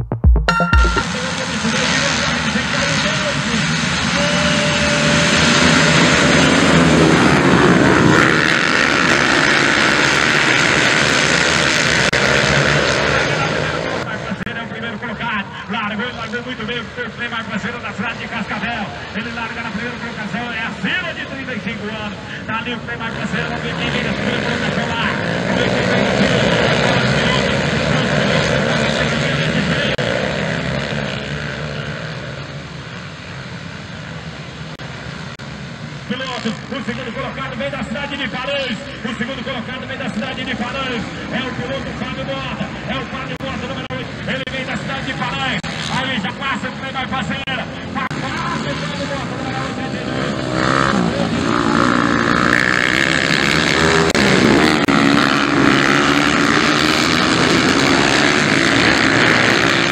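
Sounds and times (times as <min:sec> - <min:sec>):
motocross bikes revving: 0:01.2 - 0:59.9.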